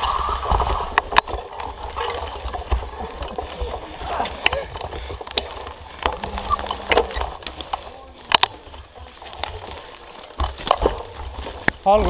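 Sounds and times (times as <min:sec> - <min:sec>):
twigs snapping under bike tyres: 0:00.0 - 0:12.0.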